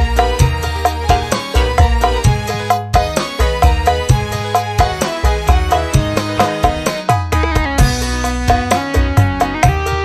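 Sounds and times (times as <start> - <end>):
plucked and struck notes: 0.0 - 10.0
repeating drum beat: 0.0 - 10.0.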